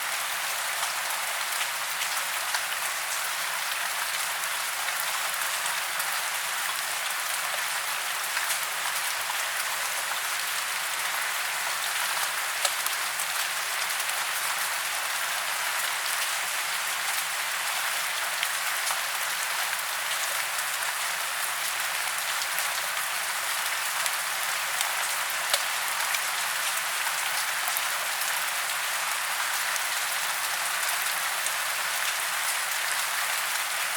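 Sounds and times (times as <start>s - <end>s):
rain falling on leaves: 0.0s - 33.9s.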